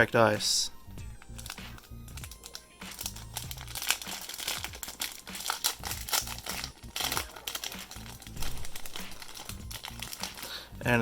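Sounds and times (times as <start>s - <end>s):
card pack wrapper crinkling: 1.1s - 10.6s.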